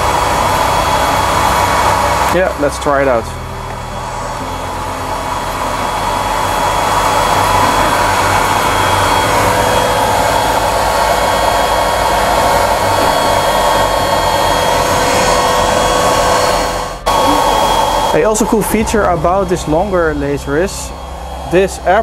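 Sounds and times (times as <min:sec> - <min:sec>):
air pump blowing: 0:00.0 - 0:22.0
laser engraver running: 0:00.0 - 0:22.0.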